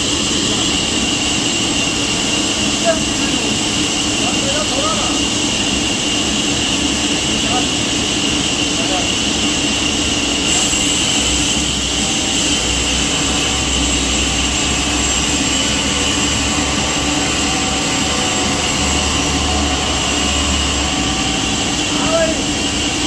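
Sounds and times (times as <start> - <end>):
saw whining: 0.0 - 23.0.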